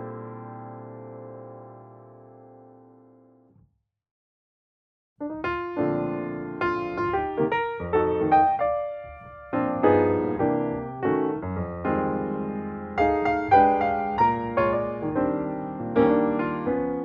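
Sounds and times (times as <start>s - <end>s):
piano chords ringing: 0.0s - 3.3s, 5.2s - 17.0s.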